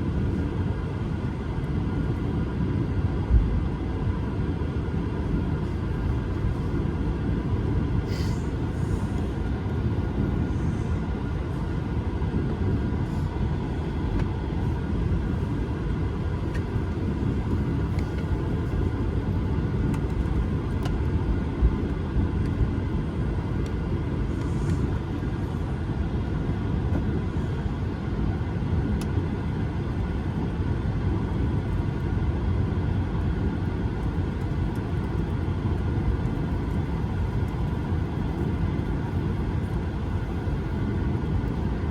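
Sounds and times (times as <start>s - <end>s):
aircraft cabin engine rumble: 0.0s - 41.9s
faint engine whine: 0.0s - 41.9s.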